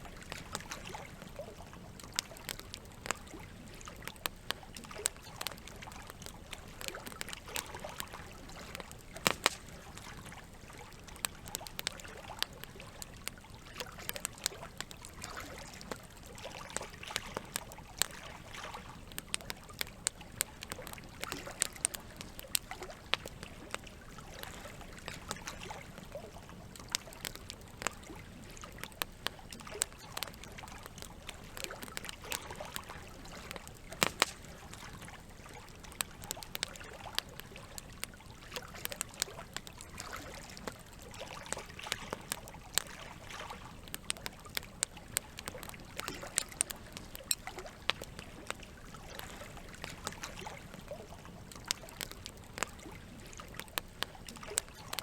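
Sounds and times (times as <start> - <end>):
campfire crackling and popping: 0.0 - 55.0
trickling water: 0.0 - 55.0.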